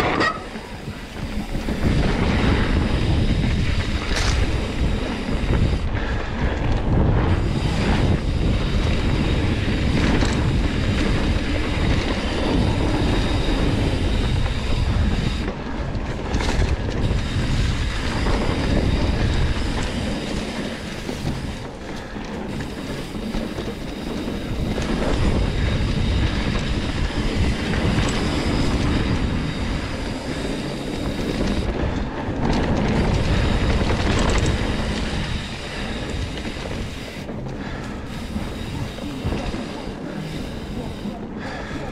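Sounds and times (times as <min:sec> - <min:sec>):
bike rattling over bumps: 0:00.0 - 0:41.9
knobby tyres rolling over gravel: 0:00.0 - 0:41.9
wind rumbling on microphone: 0:00.0 - 0:41.9.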